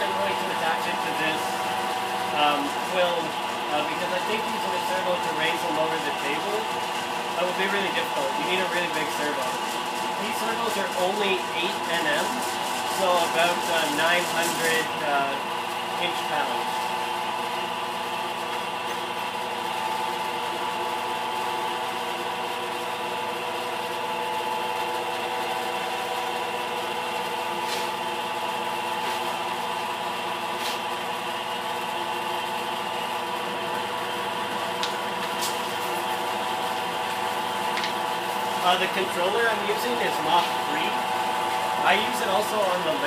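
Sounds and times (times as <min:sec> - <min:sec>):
milling machine hum: 0:00.0 - 0:43.0.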